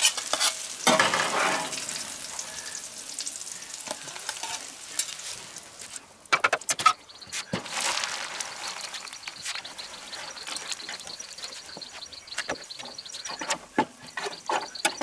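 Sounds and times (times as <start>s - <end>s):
buns sizzling in a pan: 0.0s - 15.0s.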